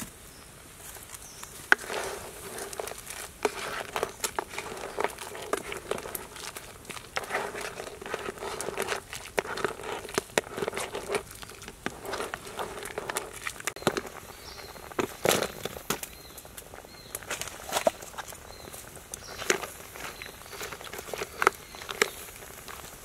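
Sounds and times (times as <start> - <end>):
light sizzling crackle: 0.0 - 23.0
wooden spoon stirring crabs in wok: 1.4 - 23.0.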